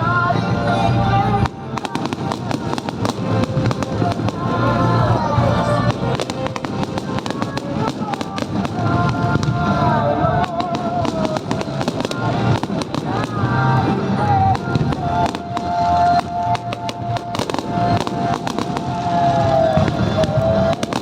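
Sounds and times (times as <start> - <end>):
music over loudspeakers: 0.0 - 21.0
fireworks bursting and crackling: 1.2 - 21.0.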